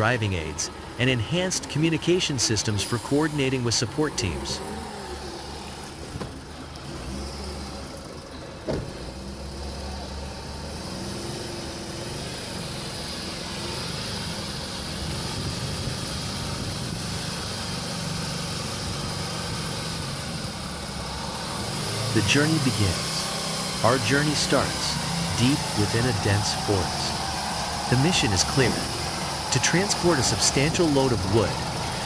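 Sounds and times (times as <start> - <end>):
heavy truck engine running: 0.0 - 32.0.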